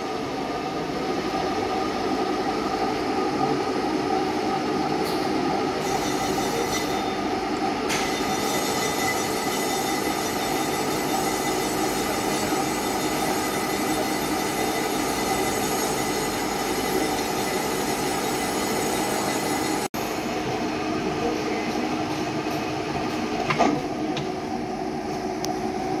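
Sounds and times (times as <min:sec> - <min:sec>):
lathe humming and whining: 0:00.0 - 0:26.0.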